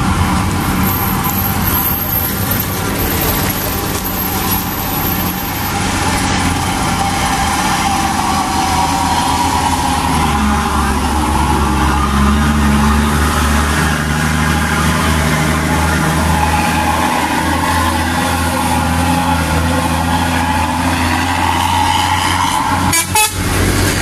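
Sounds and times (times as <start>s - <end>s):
dump truck diesel engines: 0.0s - 24.0s.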